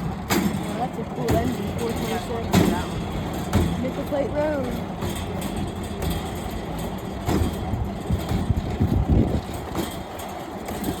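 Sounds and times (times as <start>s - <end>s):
steel wheels rolling on rail track: 0.0s - 11.0s
wheels knocking on track: 0.0s - 11.0s.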